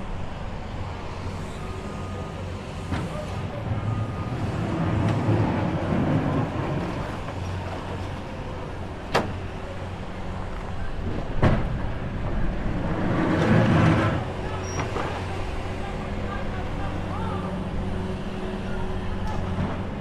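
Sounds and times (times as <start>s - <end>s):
street noise: 0.0s - 20.0s.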